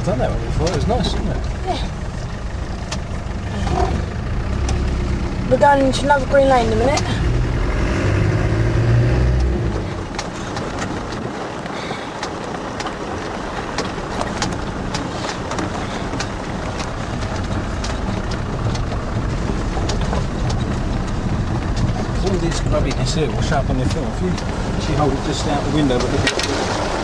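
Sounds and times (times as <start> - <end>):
small rattles and knocks: 0.0 - 7.3, 9.2 - 27.0
low engine hum: 0.0 - 27.0
wind and tyre noise: 0.0 - 27.0.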